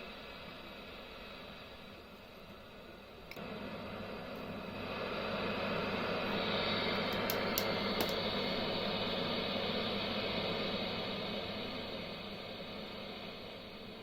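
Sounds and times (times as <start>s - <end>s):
low mains hum: 0.0s - 14.0s.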